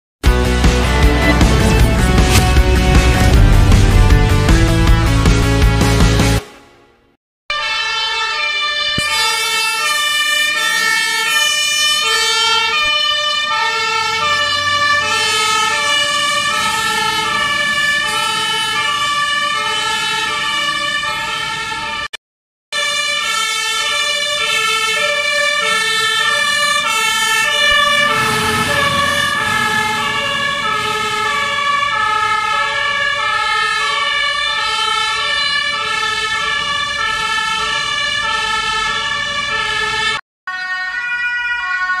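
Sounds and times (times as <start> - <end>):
two-tone fire engine sirens: 0.7 - 5.0, 7.5 - 42.0.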